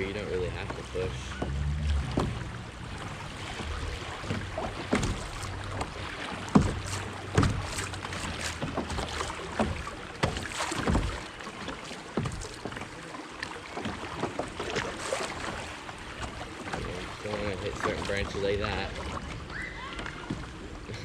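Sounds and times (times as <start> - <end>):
kayak knocks: 0.0 - 21.0
water rushing and splashing: 0.0 - 21.0.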